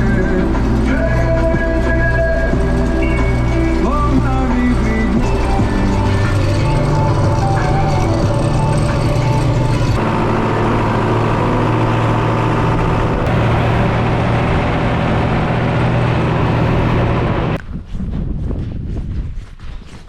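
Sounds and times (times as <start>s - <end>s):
tractor engine running under load: 0.0s - 17.6s.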